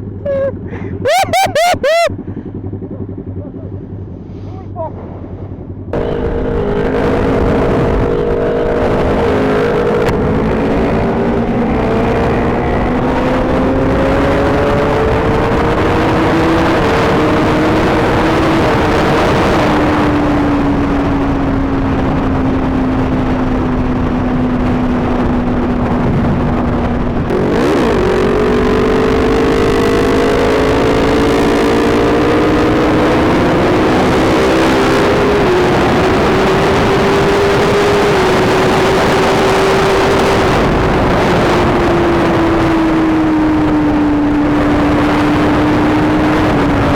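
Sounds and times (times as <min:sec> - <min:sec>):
motorcycle engine at speed: 0:00.0 - 0:46.9
wind noise on microphone: 0:05.9 - 0:46.9.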